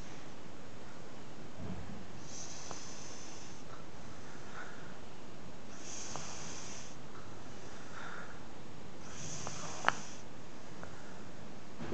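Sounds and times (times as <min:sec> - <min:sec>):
child breathing slowly: 0:00.0 - 0:00.4, 0:02.2 - 0:11.5.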